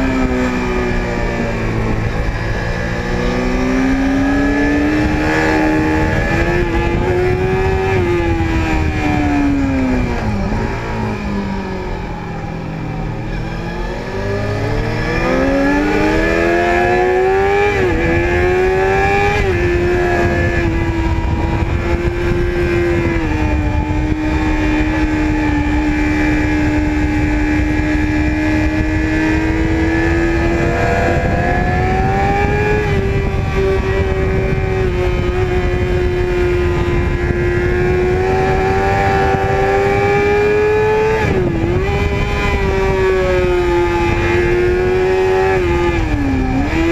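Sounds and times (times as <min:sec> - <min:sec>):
motorcycle engine accelerating: 0:00.0 - 0:46.9
wind rushing: 0:00.0 - 0:46.9.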